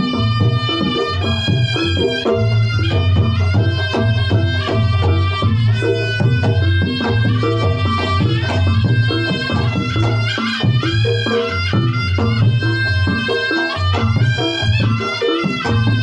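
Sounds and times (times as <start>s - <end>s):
hand drums: 0.0s - 16.0s
reedy shawm melody: 0.0s - 16.0s.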